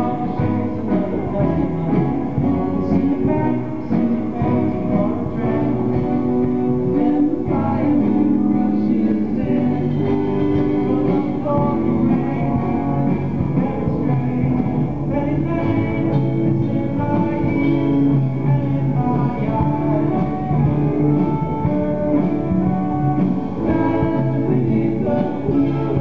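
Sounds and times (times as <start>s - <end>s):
buskers playing live music: 0.0s - 26.0s.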